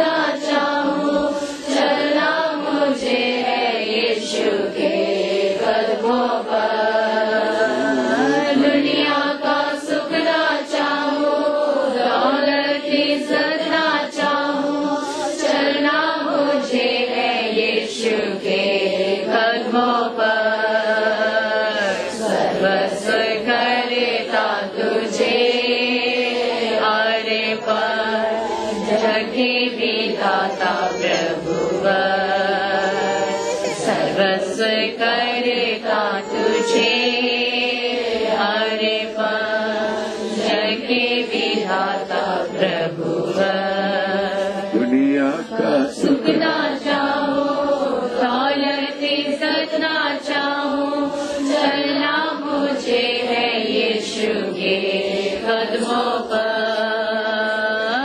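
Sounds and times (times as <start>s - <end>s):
congregation chanting: 0.0s - 58.0s.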